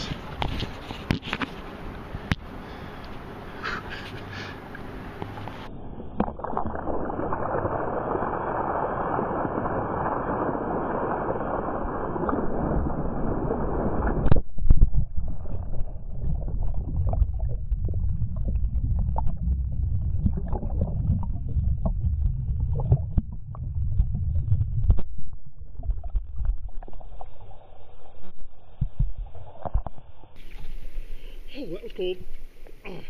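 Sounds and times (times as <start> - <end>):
water splashing: 0.0 - 32.9
muffled underwater rumbling: 0.0 - 33.0.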